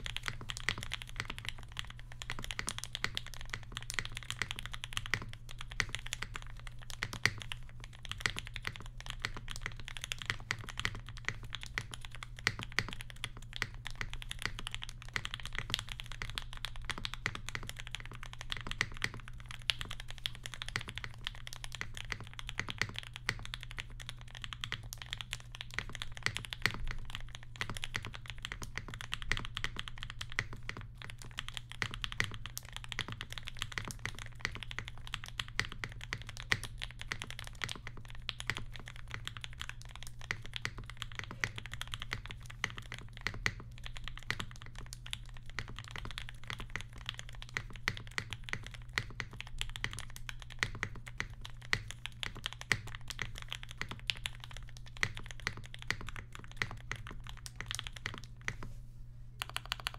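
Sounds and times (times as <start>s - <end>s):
fast typing on mechanical keyboard: 0.0s - 58.7s, 59.4s - 59.9s.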